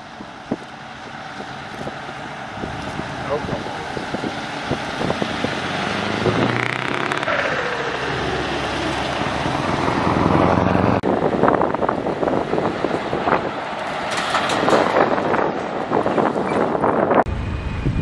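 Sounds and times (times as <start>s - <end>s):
truck engine driving past: 0.0s - 16.0s
truck approaching: 0.0s - 18.0s.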